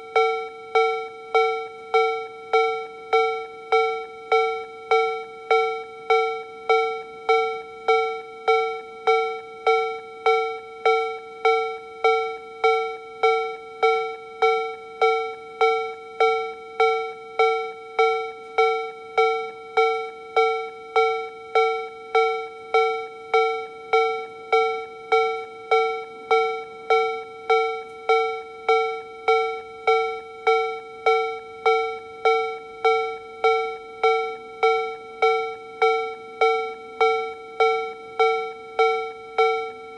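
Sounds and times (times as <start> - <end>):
level-crossing alarm bell strikes: 0.0 - 39.9.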